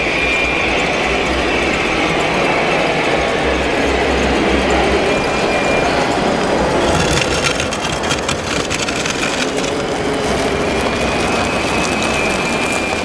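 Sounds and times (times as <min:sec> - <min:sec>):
dense background din: 0:00.0 - 0:13.0
high electric motor whine: 0:00.0 - 0:13.0
machines clattering and rattling: 0:01.0 - 0:13.0.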